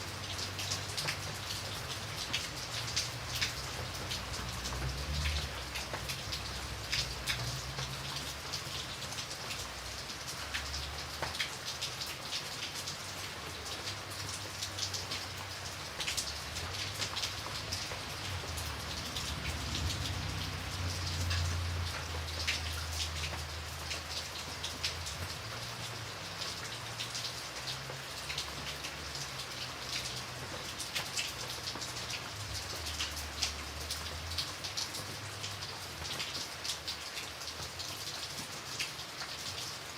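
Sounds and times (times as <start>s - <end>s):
hiss of falling rain: 0.0s - 39.9s
rain drops striking a surface: 0.0s - 39.9s.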